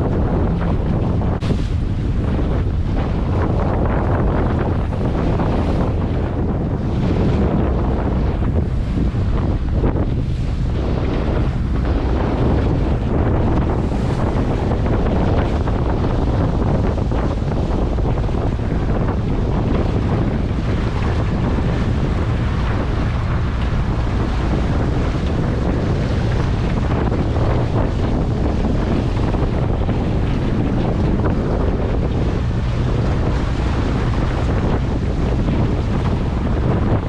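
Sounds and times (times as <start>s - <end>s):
waves and chop: 0.0s - 37.0s
wind buffeting microphone: 0.0s - 37.0s.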